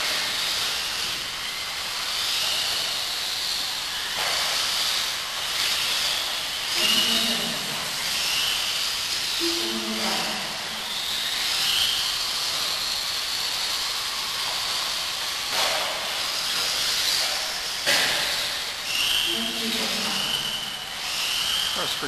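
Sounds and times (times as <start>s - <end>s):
high motor whine: 0.0s - 22.0s.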